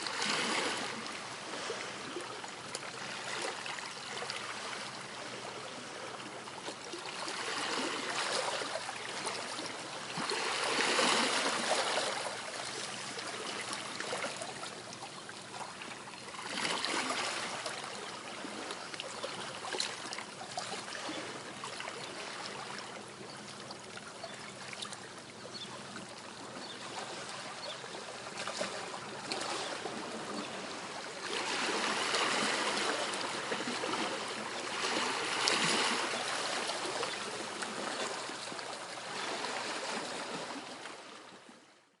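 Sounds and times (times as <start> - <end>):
sea waves washing on shore: 0.0 - 22.9, 27.1 - 41.3.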